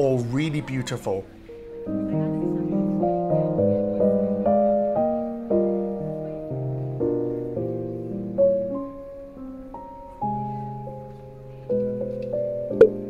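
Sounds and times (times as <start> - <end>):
slow gentle piano chords: 0.0 - 13.0.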